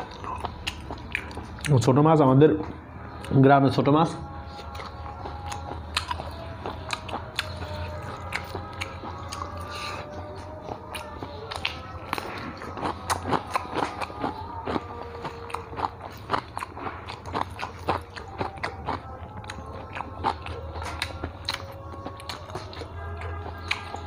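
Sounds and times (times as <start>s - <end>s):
man chewing food: 0.0s - 2.0s, 2.6s - 3.4s, 4.2s - 24.0s.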